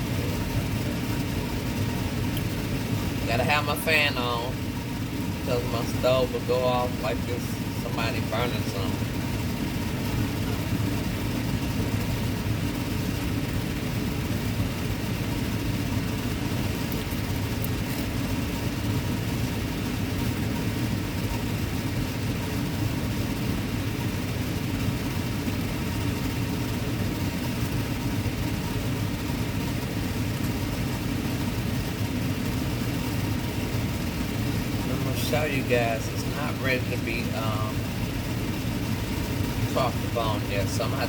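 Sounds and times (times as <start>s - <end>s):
electric fan whirring: 0.0s - 41.0s.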